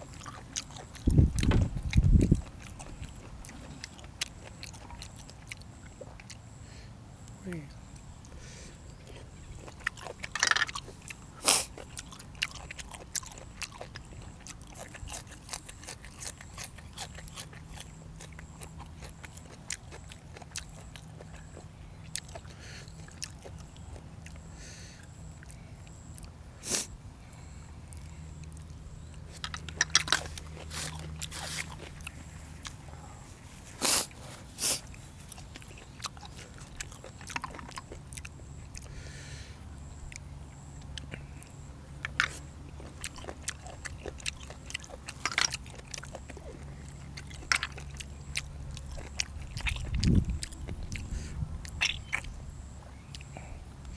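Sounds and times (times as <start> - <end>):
person chewing crunchy food: 0.0 - 6.6, 7.9 - 53.9.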